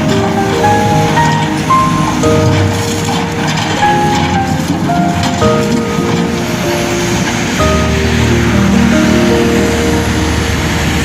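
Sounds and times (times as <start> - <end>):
music with long held notes: 0.0 - 11.0
steady rushing noise: 0.0 - 11.0.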